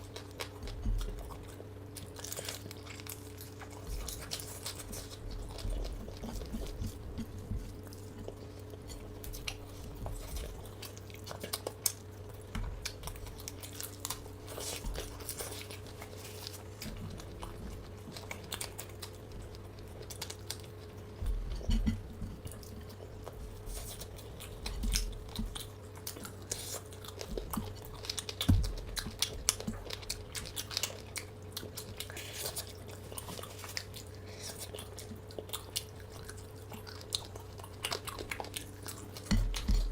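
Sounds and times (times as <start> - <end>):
chewing and crunching food: 0.0 - 39.9
steady low hum: 0.0 - 39.9.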